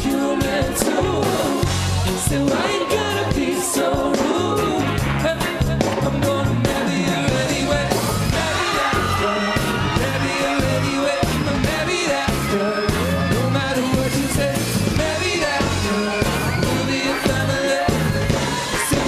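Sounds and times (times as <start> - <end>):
live reggae pop band: 0.0 - 19.0
man singing: 0.0 - 19.0.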